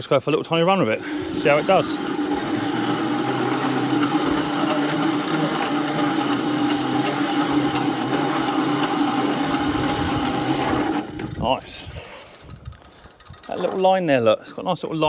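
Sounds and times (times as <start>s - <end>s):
push mower reel whirring: 0.6s - 14.6s.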